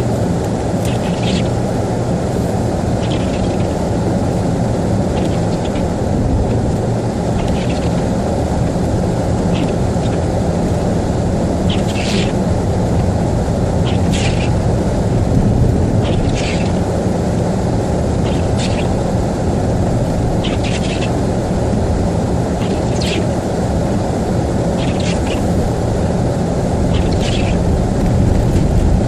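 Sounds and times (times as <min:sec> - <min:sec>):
car engine and tyres rumbling: 0:00.0 - 0:29.0.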